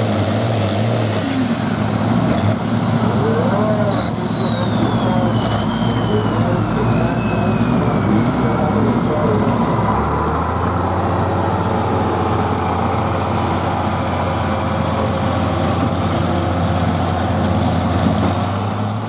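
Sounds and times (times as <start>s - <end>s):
tractor engine idling: 1.6s - 19.0s.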